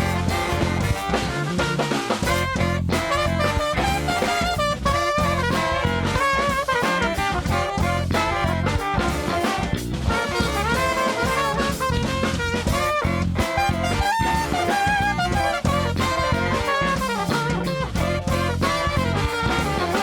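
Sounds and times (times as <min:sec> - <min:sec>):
bass groove: 0:00.0 - 0:20.0
drum kit: 0:00.0 - 0:20.0
trumpet and saxophone: 0:00.0 - 0:20.0.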